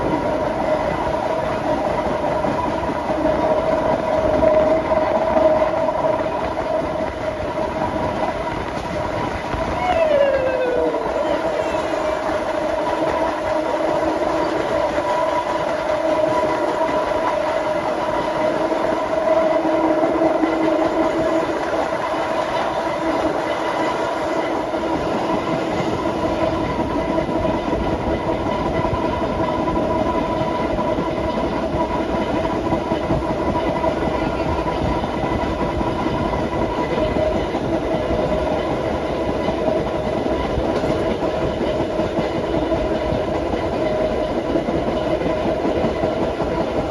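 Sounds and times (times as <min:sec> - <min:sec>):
train wheels clickety-clack: 0:00.0 - 0:46.9.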